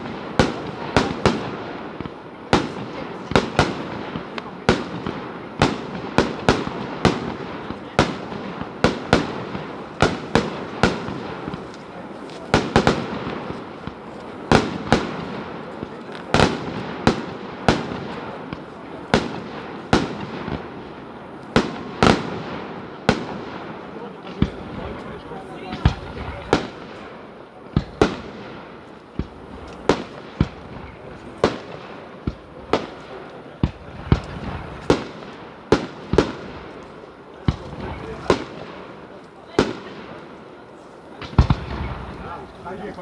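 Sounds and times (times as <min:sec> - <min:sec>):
fireworks crackling: 0:00.0 - 0:43.0.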